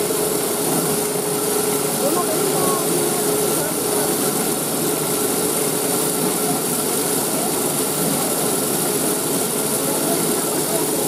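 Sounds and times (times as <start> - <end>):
cotton candy machine humming: 0.0 - 11.0
high machine whine: 0.0 - 11.0.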